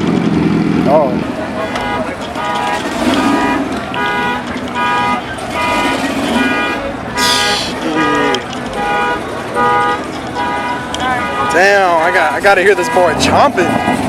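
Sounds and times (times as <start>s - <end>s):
car horn blasts: 1.5s - 13.6s.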